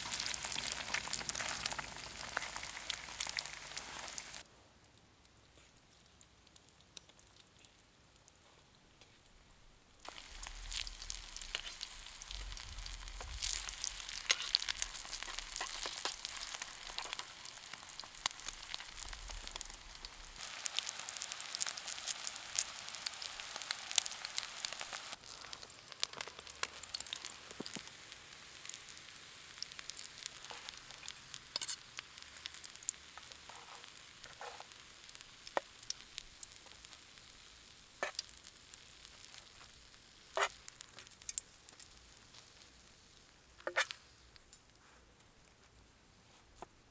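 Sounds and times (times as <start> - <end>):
food sizzling in a pan: 0.0 - 4.5, 10.0 - 45.0.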